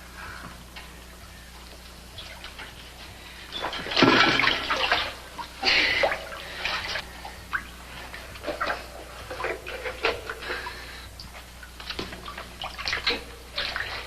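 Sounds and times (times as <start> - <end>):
water splashing and sloshing: 1.6 - 14.0.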